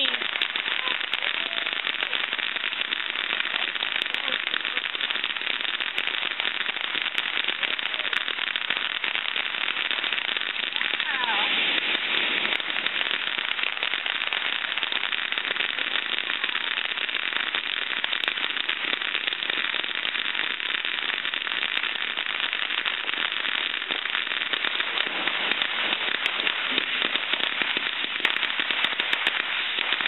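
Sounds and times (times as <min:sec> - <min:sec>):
firework fountain crackling: 0:00.0 - 0:30.0.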